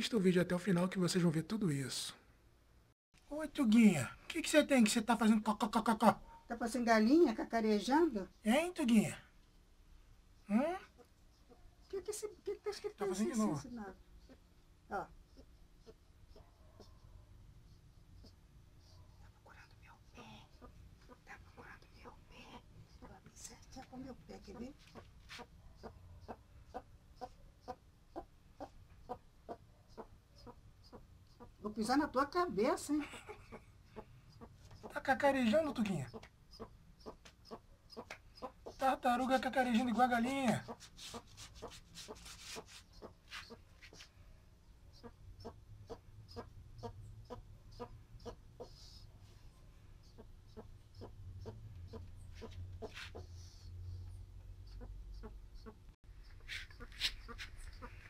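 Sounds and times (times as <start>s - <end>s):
tortoise clucking: 10.4s - 19.4s, 20.1s - 58.0s.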